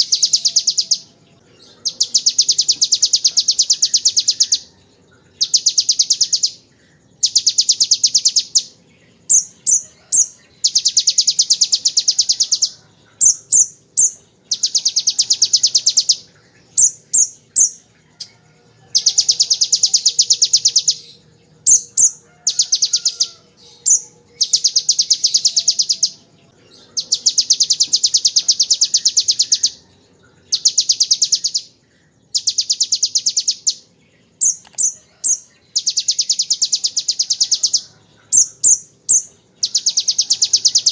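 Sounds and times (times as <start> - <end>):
bird sharp high chirps: 0.0 - 4.8, 5.4 - 18.4, 19.0 - 29.9, 30.5 - 40.9.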